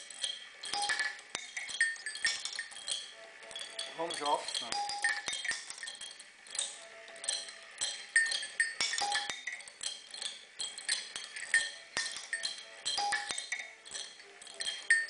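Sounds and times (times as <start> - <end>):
ringing metallic clinks: 0.0 - 15.0.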